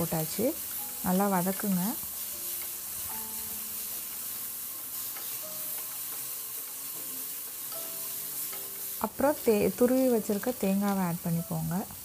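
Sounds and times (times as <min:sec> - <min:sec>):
onion and tomato sizzling in oil: 0:00.0 - 0:12.0
spatula scraping a pan: 0:00.2 - 0:11.0.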